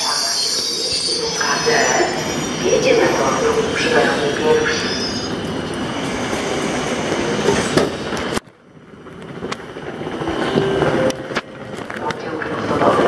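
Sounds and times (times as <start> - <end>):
train and platform noise: 0.0 - 13.0.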